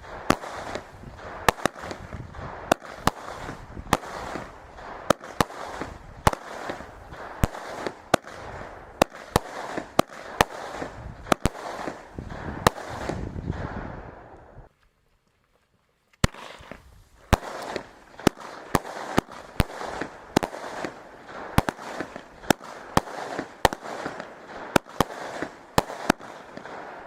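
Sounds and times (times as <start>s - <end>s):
fireworks firing sharp reports: 0.0s - 14.6s, 16.2s - 27.0s
crackling hiss: 0.0s - 27.0s.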